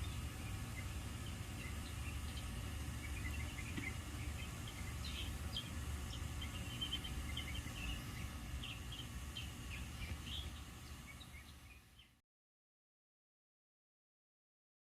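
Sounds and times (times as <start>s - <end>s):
birds squeaking and chirping: 0.0s - 12.2s.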